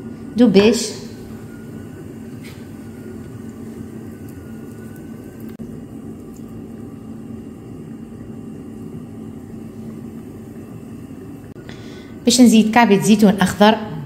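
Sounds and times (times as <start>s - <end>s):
faint high whine: 0.0s - 14.0s
low mechanical hum: 0.0s - 14.0s.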